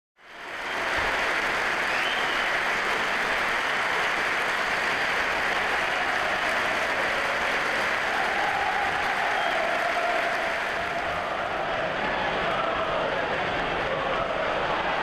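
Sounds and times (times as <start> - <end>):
stadium crowd cheering and applauding: 0.2 - 15.0.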